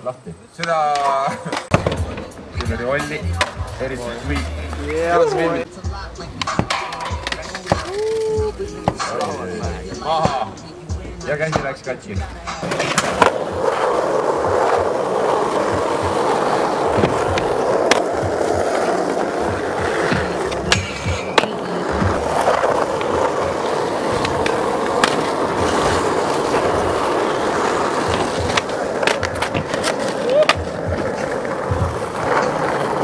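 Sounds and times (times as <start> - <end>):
skateboard wheels rolling on asphalt: 0.0 - 33.0
skateboard clacks: 6.2 - 33.0.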